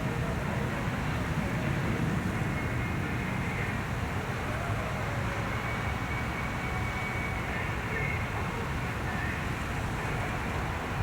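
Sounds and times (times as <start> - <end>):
road traffic rumble: 0.0 - 11.0
wind: 0.0 - 11.0.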